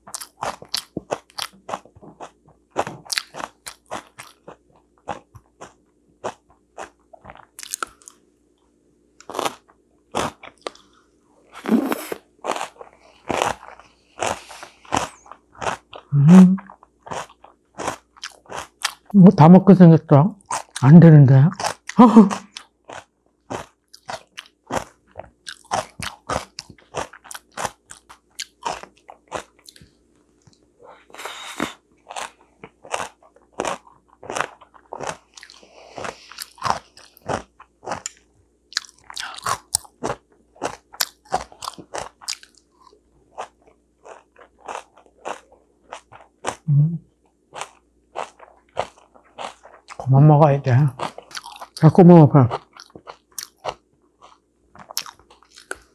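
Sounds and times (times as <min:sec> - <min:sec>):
person chewing and crunching food: 0:00.0 - 0:08.3, 0:09.2 - 0:19.2, 0:20.4 - 0:20.9, 0:21.5 - 0:50.1, 0:50.7 - 0:55.9.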